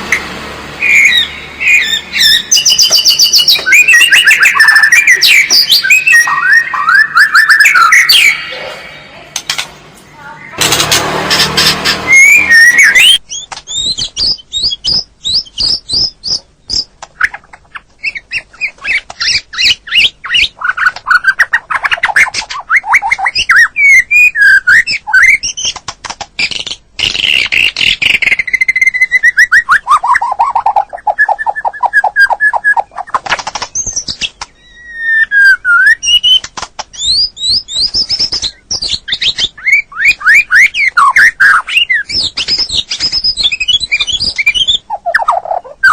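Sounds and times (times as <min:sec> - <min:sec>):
bird singing varied song: 0:00.8 - 0:09.5, 0:10.1 - 0:25.8, 0:26.4 - 0:45.9.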